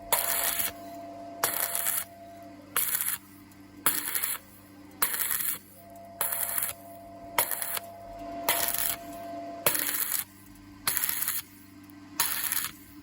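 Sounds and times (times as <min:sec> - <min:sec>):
welding arc crackling: 0:00.0 - 0:00.8, 0:01.4 - 0:13.0
welding machine hum: 0:00.0 - 0:13.0.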